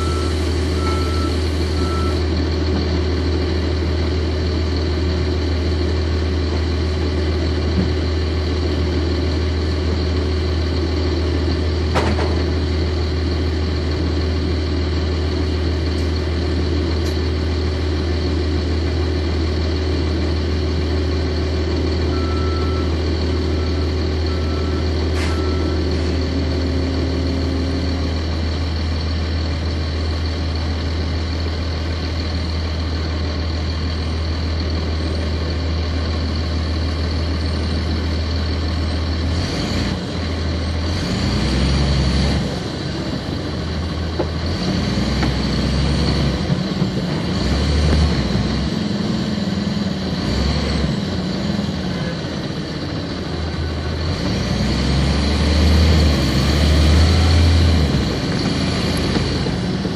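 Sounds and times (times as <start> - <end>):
bus engine revving through gears: 0.0 - 31.2, 34.7 - 59.9
diesel bus engine idling: 0.0 - 59.9.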